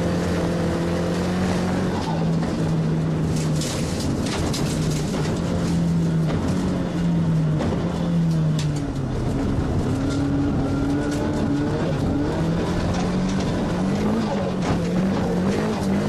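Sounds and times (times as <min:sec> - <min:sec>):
loud road noise: 0:00.0 - 0:16.0
race car engine revving: 0:00.0 - 0:16.0.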